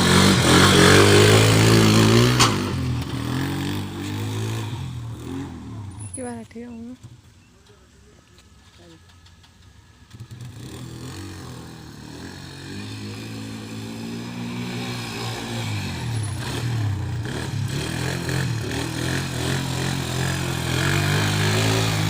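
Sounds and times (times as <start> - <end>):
quad bike engine revving: 0.0 - 7.2, 10.0 - 22.0.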